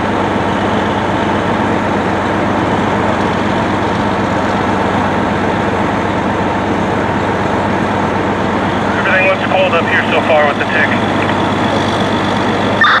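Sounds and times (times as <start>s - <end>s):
large engine droning: 0.0s - 13.0s.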